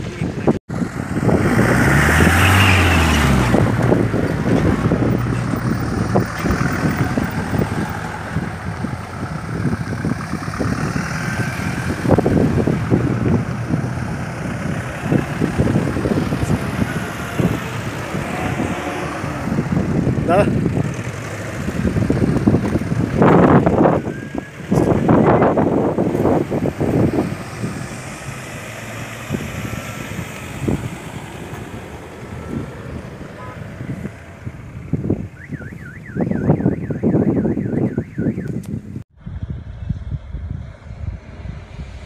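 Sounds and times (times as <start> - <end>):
off-road vehicle engines running: 0.0 - 42.0
wind buffeting microphone: 0.0 - 42.0.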